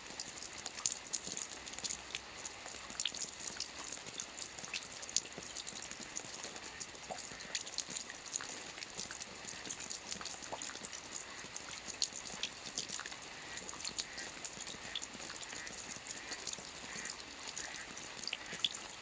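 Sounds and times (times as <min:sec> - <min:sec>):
raindrops ticking on a surface: 0:00.0 - 0:19.0.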